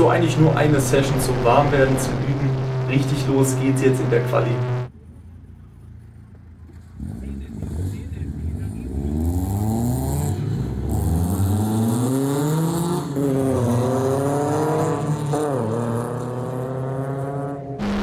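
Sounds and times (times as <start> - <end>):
race car engines revving: 0.0 - 4.9, 6.5 - 18.0.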